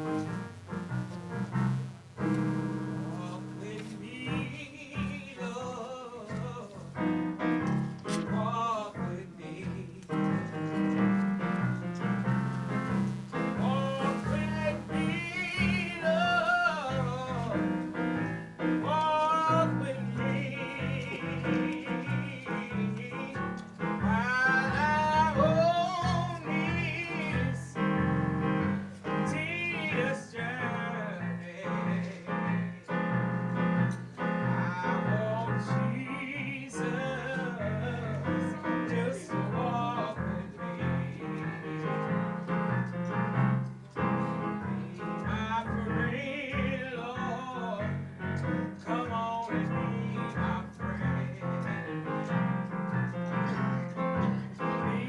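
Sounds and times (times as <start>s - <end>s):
piano chords: 0.0s - 55.0s
person singing: 2.2s - 33.1s, 34.4s - 42.1s, 44.1s - 52.3s, 53.4s - 55.0s.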